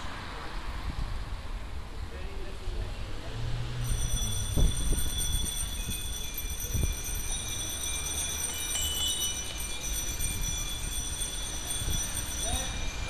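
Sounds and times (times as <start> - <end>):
wind rumble on microphone: 0.6 - 2.2, 3.8 - 13.0.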